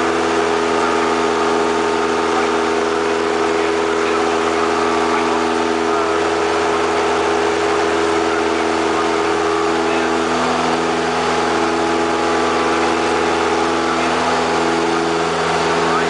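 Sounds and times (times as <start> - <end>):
propeller airplane engine drone: 0.0 - 16.0.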